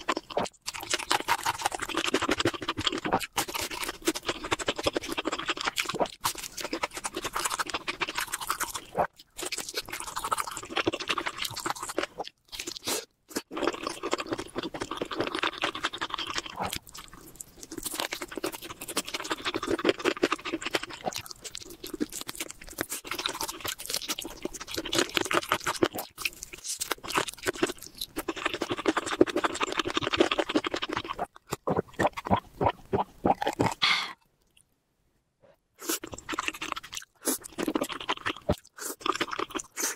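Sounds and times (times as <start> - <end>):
person chewing and crunching: 0.0 - 34.6, 35.8 - 39.9.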